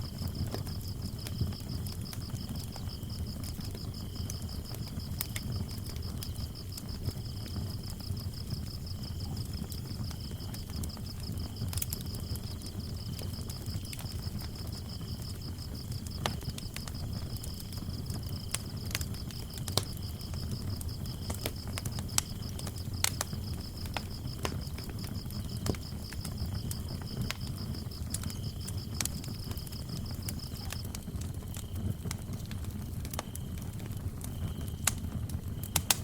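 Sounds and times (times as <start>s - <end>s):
wood fire crackling: 0.0s - 36.0s
crickets chirping: 0.1s - 31.8s.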